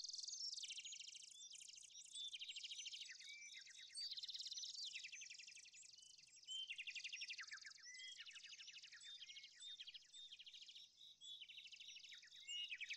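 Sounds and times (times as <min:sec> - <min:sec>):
songbirds singing: 0:00.0 - 0:12.9.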